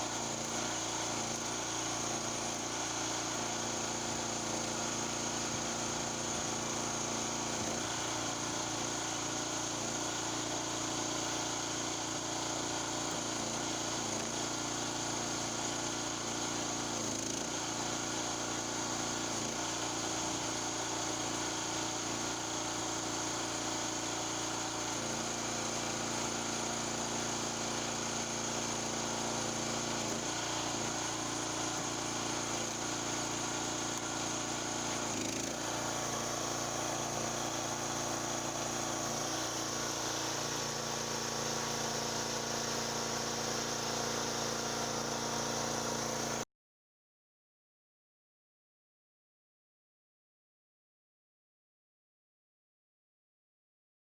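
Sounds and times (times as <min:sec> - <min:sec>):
engine running steadily: 0:00.0 - 0:46.4.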